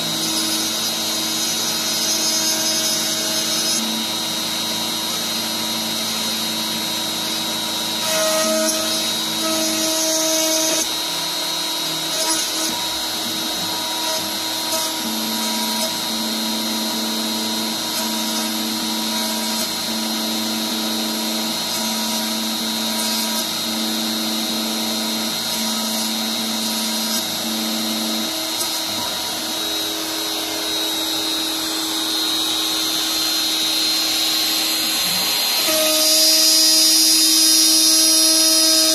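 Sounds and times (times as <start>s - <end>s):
router milling wood: 0.0s - 38.9s.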